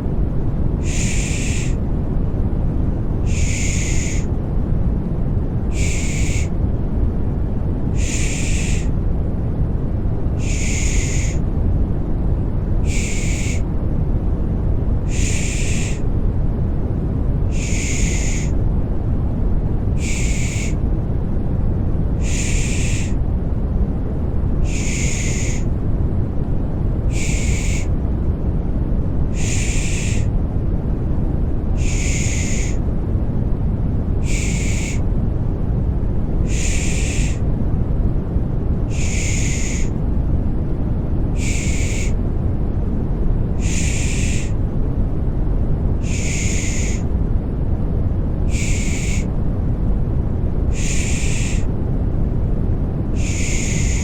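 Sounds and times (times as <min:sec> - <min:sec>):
deep white noise: 0:00.0 - 0:54.0.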